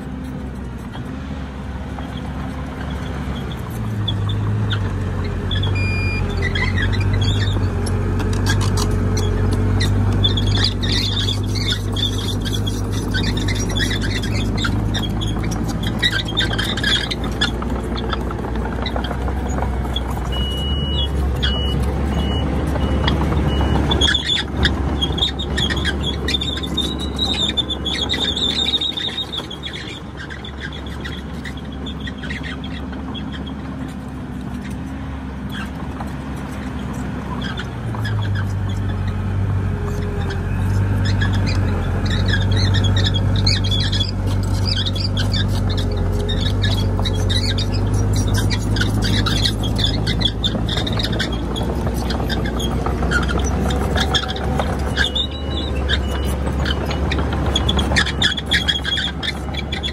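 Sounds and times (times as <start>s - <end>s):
diesel engine under load: 0.0s - 59.9s
steel tracks squealing: 2.0s - 34.8s, 35.5s - 59.9s.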